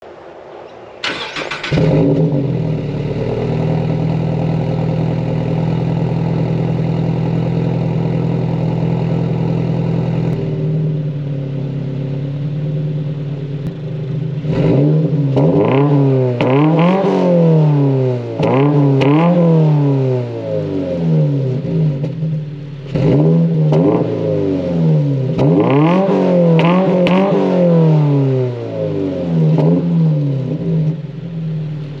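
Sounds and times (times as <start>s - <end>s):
car engine idling: 1.0s - 32.0s
engine revving: 1.0s - 32.0s.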